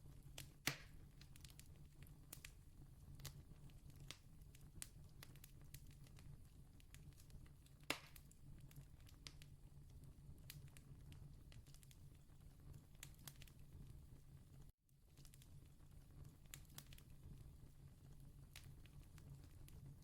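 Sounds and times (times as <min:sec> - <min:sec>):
campfire crackling: 0:00.1 - 0:13.7, 0:15.1 - 0:20.0.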